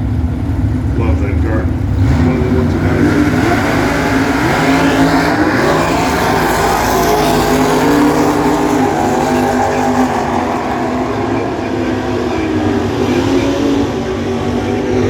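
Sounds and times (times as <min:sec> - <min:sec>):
drag racing cars: 0:00.0 - 0:15.0.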